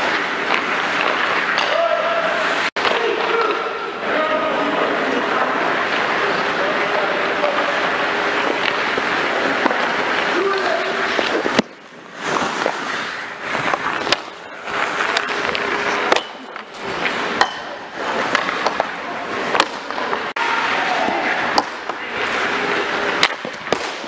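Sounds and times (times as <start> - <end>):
hockey sticks and puck clacking: 0.0 - 24.0
skates scraping on ice: 0.0 - 24.0.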